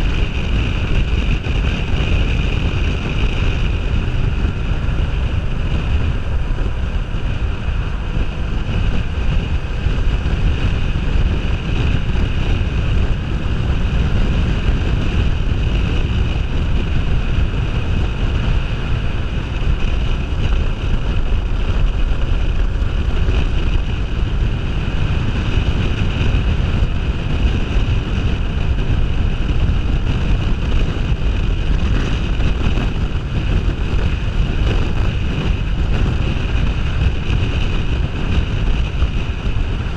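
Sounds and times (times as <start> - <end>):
motorcycle engine running: 0.0 - 39.9
wind rushing across microphone: 0.0 - 39.9.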